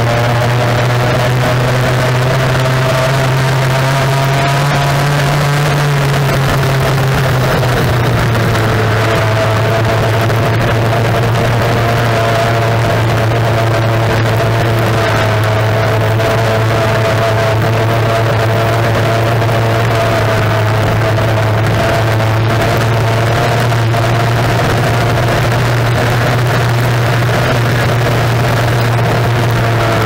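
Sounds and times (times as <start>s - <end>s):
racing outboard engine drone: 0.0s - 30.0s.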